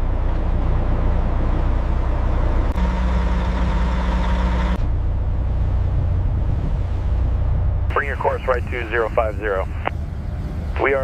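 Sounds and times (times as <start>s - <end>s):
ship engine rumbling: 0.0s - 11.0s
steady hum: 0.0s - 11.0s.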